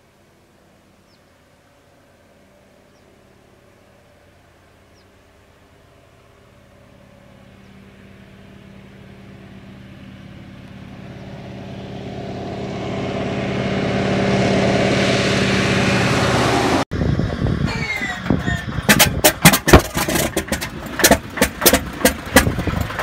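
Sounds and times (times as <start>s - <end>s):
propeller plane droning overhead: 0.0s - 19.4s
closer uneven engine sound: 0.0s - 23.0s.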